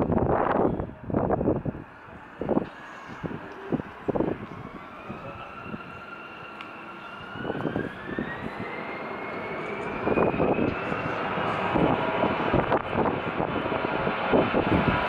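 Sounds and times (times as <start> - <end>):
jet engines spooling up: 0.0 - 15.0.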